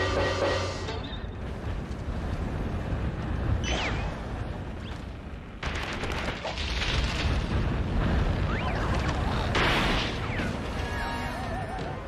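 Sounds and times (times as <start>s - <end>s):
cartoon tornado rushing wind: 1.4s - 12.0s.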